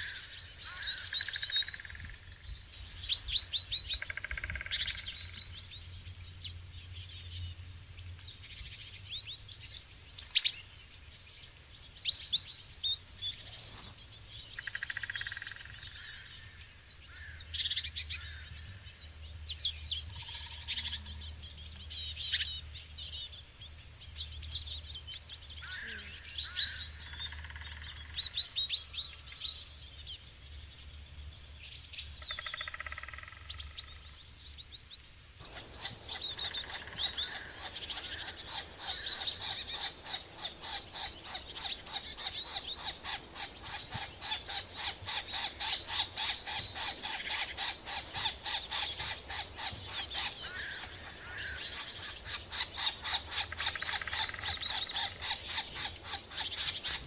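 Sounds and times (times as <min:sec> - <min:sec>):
birds chirping and calling: 0:00.0 - 0:11.0, 0:12.1 - 0:29.7, 0:32.2 - 0:57.0.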